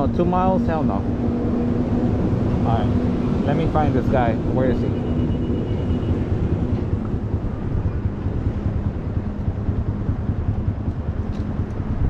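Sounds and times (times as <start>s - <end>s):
faint vehicle hum: 0.0s - 12.0s.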